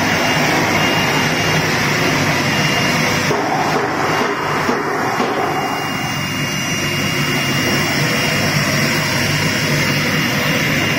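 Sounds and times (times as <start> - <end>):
rushing machine noise: 0.0 - 10.9
spindle motor high whine: 0.0 - 10.9.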